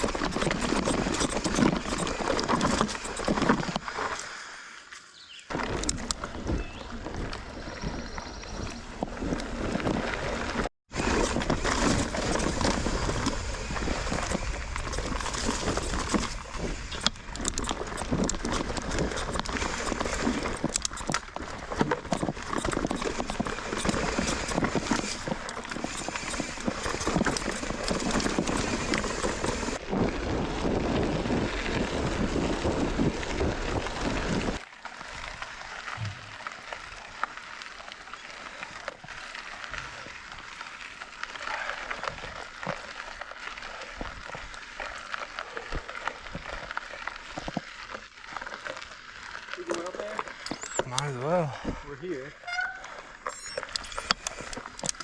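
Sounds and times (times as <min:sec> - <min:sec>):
bike rattling over rough trail: 0:00.0 - 0:04.4, 0:05.2 - 0:55.0.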